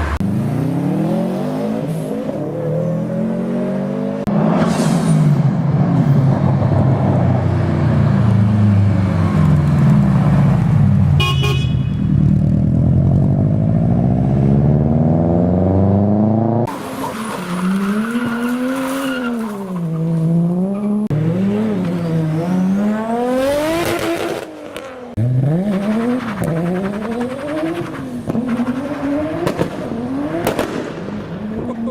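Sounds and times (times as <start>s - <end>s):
car engines revving: 0.0s - 31.9s.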